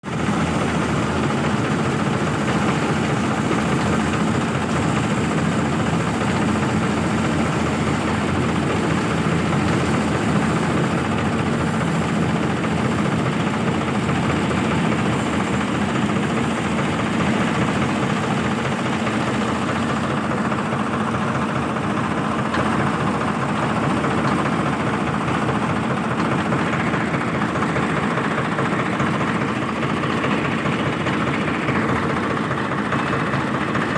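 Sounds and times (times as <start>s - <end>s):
combine harvester running: 0.0s - 33.9s.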